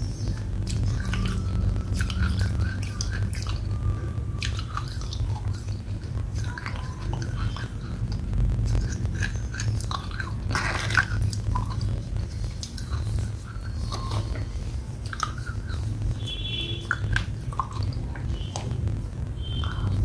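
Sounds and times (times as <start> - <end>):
person chewing wet clay: 0.0 - 18.8
low hum: 0.0 - 20.0
lip and tongue clicks: 0.3 - 3.8, 4.4 - 15.9, 16.8 - 18.8.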